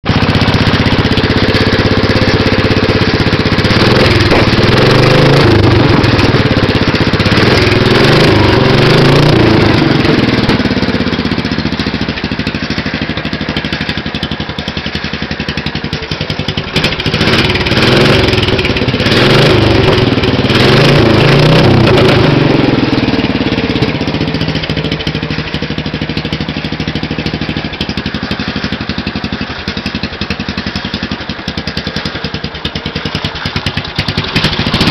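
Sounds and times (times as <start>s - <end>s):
lawn mower engine revving: 0.0s - 34.9s.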